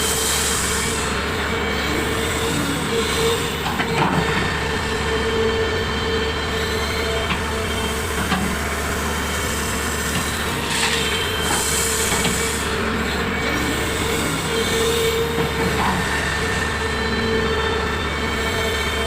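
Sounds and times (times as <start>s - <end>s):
excavator engine and hydraulic whine: 0.0s - 19.0s.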